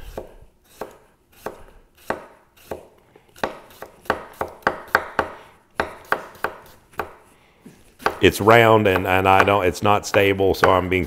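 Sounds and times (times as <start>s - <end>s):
knife chopping on wooden board: 0.1s - 7.2s, 8.0s - 8.2s, 8.9s - 10.8s.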